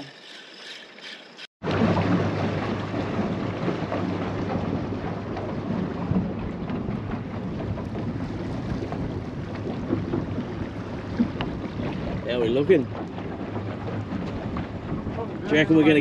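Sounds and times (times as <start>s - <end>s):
outboard motor humming: 0.0s - 16.0s
water hissing along hull: 0.0s - 16.0s
wind rumble on microphone: 1.6s - 16.0s.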